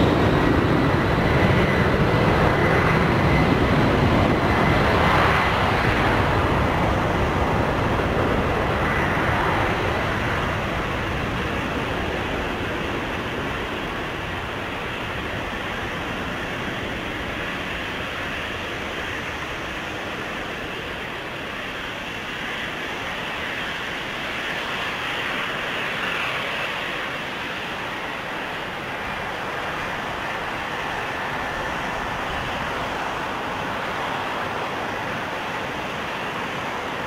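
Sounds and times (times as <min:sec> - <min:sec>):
jet engines roaring at takeoff: 0:00.0 - 0:37.0.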